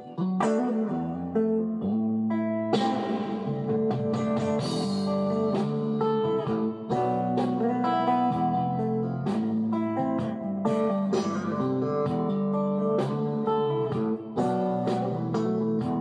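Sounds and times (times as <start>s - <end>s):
guitar plucking and strumming: 0.0s - 16.0s.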